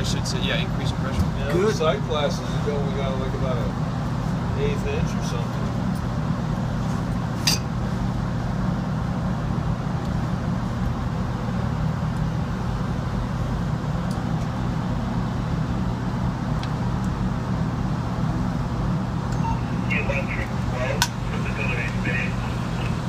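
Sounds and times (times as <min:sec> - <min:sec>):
low machinery drone: 0:00.0 - 0:23.0.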